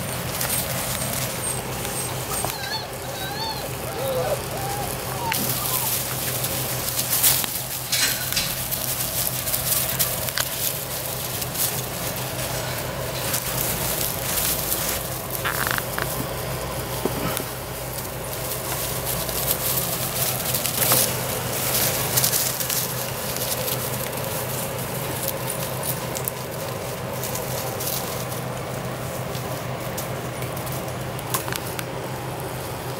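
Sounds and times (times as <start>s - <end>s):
puppies scampering on wood chips: 0.0s - 32.9s
steady low hum: 0.0s - 32.9s.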